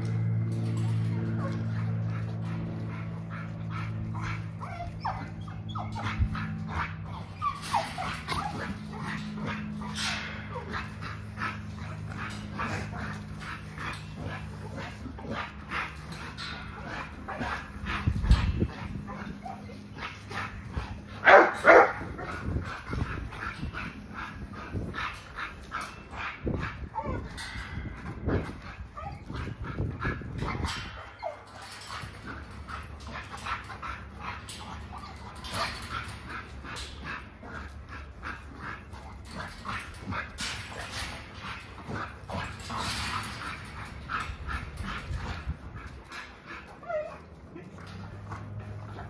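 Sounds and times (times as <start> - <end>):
dogs barking and yipping: 0.0 - 49.0
dogs whimpering: 0.0 - 49.0.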